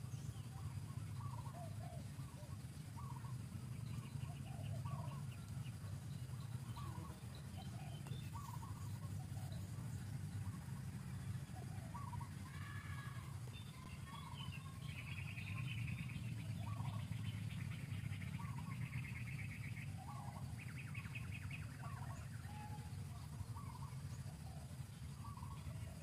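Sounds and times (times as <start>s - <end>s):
bird chirps: 0.0s - 26.0s
bird trills: 0.0s - 26.0s
steady low rumble: 0.0s - 26.0s.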